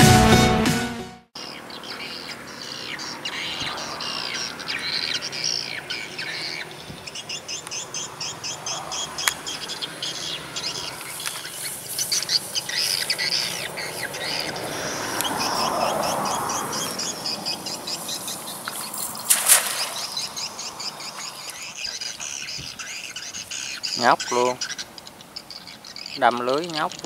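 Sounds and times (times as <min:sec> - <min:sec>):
birds chirping and trilling: 0:01.4 - 0:27.0.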